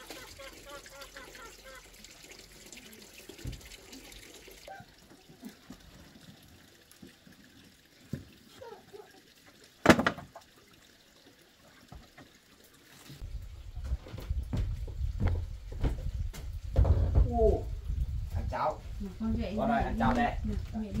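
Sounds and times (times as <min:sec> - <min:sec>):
faint water trickling: 0:00.0 - 0:21.0.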